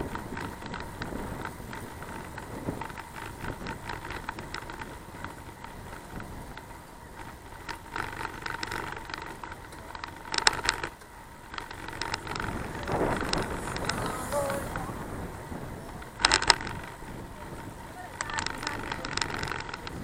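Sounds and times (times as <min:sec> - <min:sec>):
bicycle clicks and rattles: 0:00.0 - 0:20.0
bicycle ride rumble: 0:00.0 - 0:20.0.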